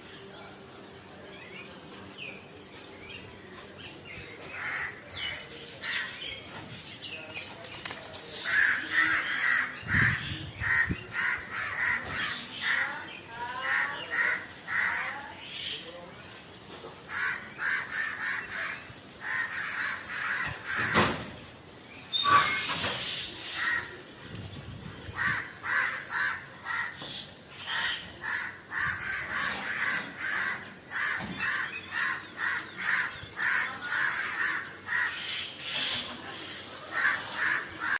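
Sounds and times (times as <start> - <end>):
birds harsh repeated calls: 3.2 - 15.9, 17.0 - 37.9.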